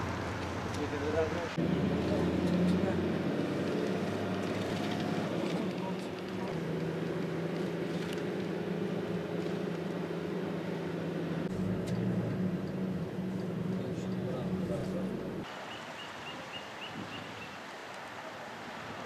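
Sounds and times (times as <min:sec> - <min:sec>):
vehicle engine hum and road noise: 0:00.0 - 0:15.6.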